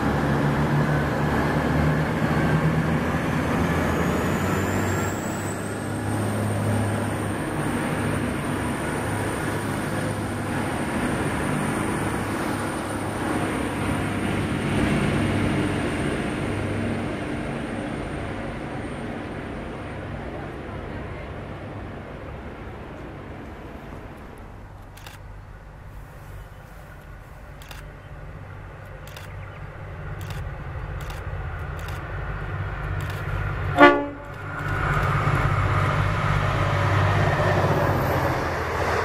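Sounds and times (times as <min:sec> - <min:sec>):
diesel engines droning: 0:00.0 - 0:39.0.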